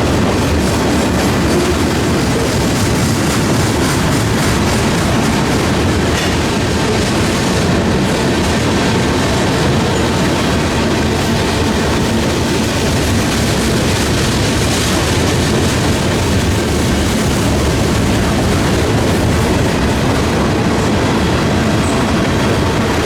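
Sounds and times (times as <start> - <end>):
freight train rolling past: 0.0 - 23.0
wheels clicking over rail joints: 0.0 - 23.0
wind buffeting microphone: 0.0 - 23.0.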